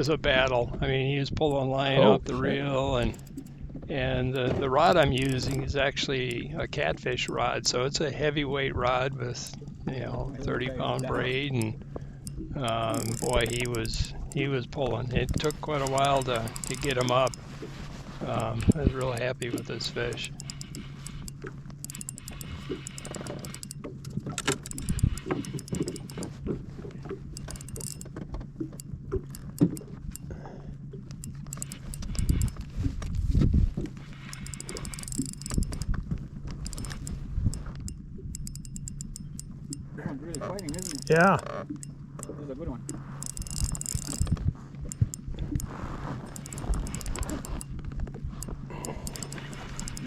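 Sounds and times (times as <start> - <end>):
boat motor humming: 0.0 - 50.0
gear clicking and knocking: 2.8 - 7.5, 10.6 - 17.6, 18.2 - 30.3, 31.1 - 33.2, 33.8 - 50.0.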